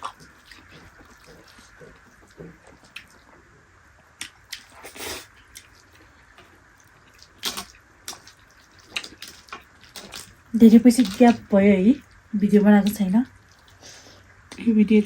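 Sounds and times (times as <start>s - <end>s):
wet eating sounds: 0.0s - 14.7s.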